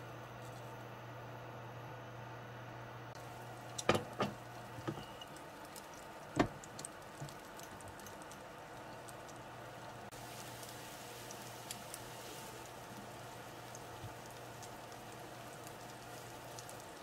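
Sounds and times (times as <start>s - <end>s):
steady low hum: 0.0s - 17.0s
oil crackling in frying pan: 3.2s - 17.0s.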